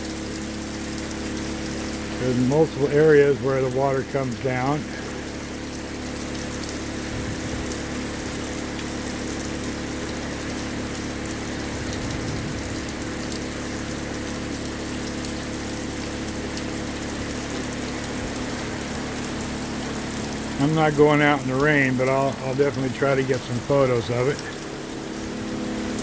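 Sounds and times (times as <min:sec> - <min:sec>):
engine-generator hum: 0:00.0 - 0:26.0
rain and runoff water flowing: 0:00.0 - 0:26.0.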